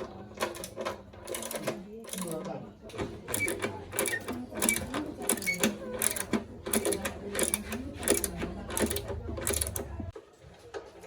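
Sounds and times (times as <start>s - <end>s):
rhythmic mechanical clicking: 0.0s - 10.2s.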